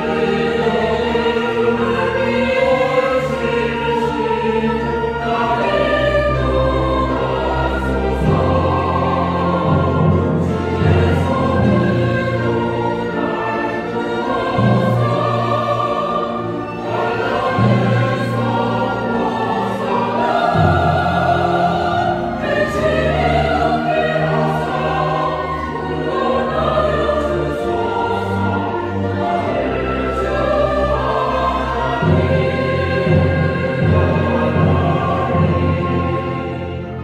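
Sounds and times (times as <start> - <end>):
choir singing: 0.0 - 37.0
piano: 0.0 - 37.0
string orchestra: 0.0 - 37.0.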